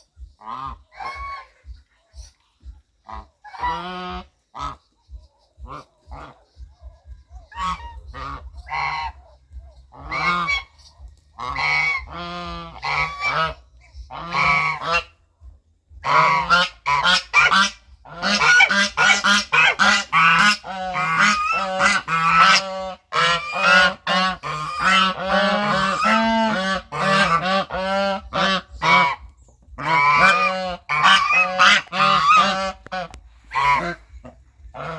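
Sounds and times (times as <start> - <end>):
geese honking: 0.0 - 15.3, 15.9 - 34.9.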